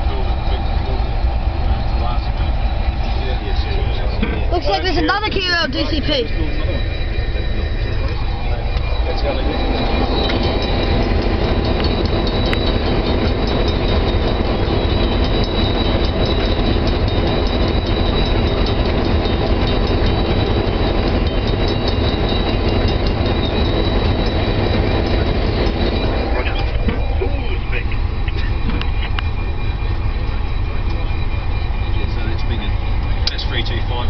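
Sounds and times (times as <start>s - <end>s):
diesel engine rumble: 0.0s - 34.0s
thin high whine: 0.0s - 34.0s.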